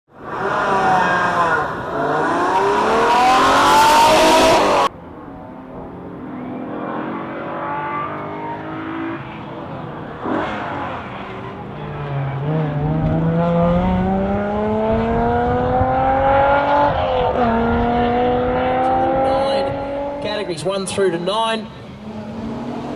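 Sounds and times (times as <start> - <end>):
car engine revving: 0.2 - 5.0, 5.6 - 20.5, 21.6 - 22.9.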